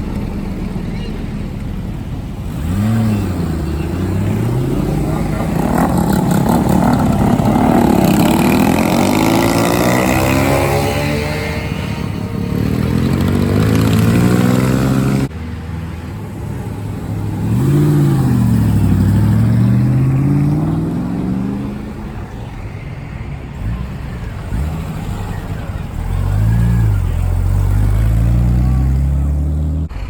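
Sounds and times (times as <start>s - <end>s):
engine revving: 0.0s - 15.4s, 17.3s - 22.4s, 23.5s - 30.0s
car engines passing: 0.0s - 30.0s.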